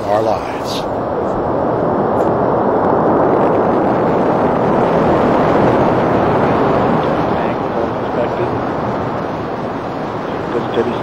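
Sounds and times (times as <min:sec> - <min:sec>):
rocket engine roaring: 0:00.0 - 0:11.0.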